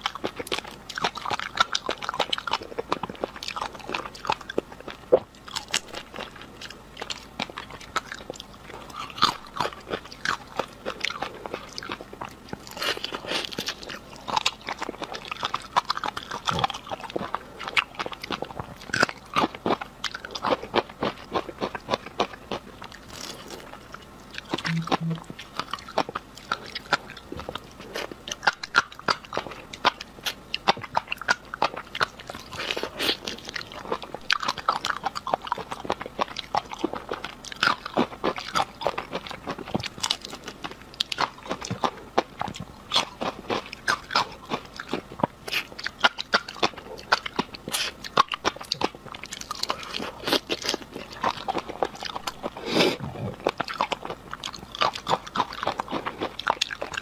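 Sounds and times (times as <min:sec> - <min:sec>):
wet chewing and crunching: 0:00.0 - 0:57.0.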